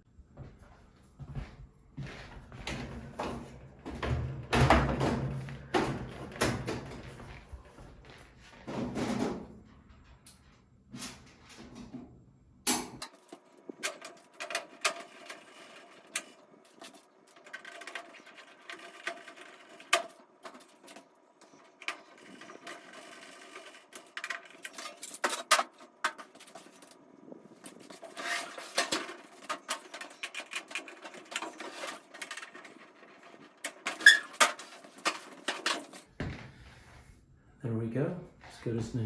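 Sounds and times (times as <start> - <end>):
panels and screws clicking and rattling: 2.2 - 36.6.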